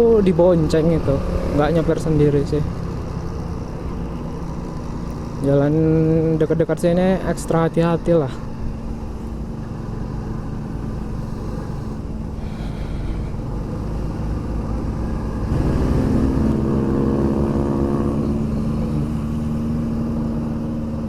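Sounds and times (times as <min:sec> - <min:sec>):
road and wind rumble: 0:00.0 - 0:21.0.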